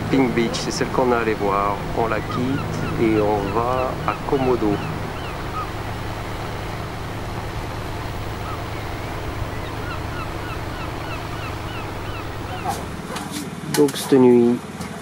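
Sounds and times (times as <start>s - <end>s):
wind and water rushing: 0.0s - 13.6s
boat engine running: 0.0s - 15.0s.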